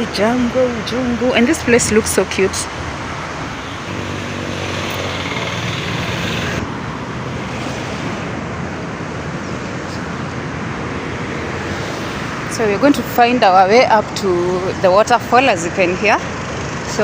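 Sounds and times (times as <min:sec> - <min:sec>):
steady rushing roar: 0:00.0 - 0:17.0
vehicle engine passing: 0:00.2 - 0:17.0.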